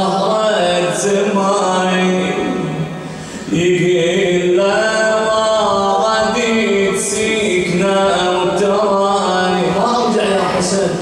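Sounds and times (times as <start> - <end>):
man chanting a lament: 0.0 - 11.0.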